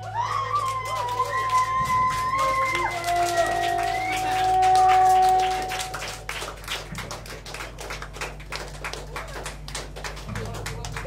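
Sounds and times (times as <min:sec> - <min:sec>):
audience clapping: 0:00.0 - 0:11.0.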